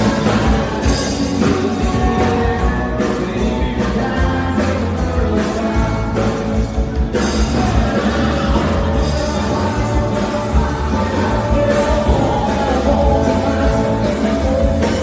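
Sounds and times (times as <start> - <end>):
live rock and roll band: 0.0 - 15.0
person singing: 0.0 - 15.0.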